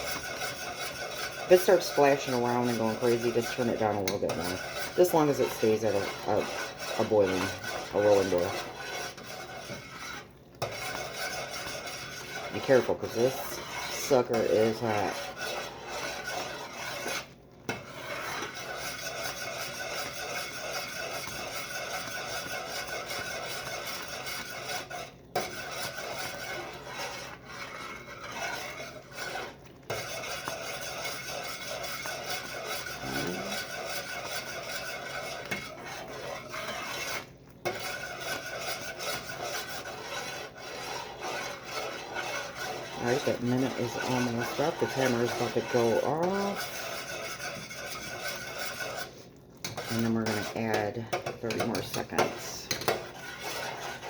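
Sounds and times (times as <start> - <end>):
spoon scraping a pot: 0.0 - 54.0.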